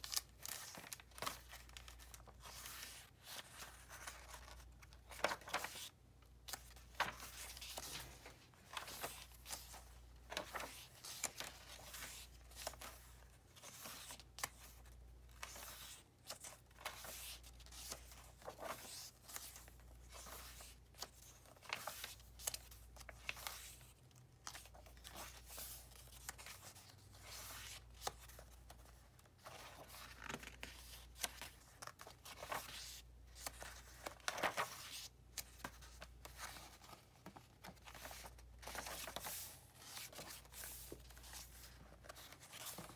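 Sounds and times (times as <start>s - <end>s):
paper pages rustling: 0.0s - 42.9s.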